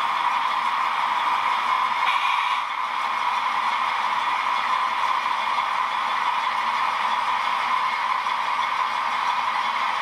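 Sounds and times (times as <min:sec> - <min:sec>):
model train rushing on track: 0:00.0 - 0:10.0.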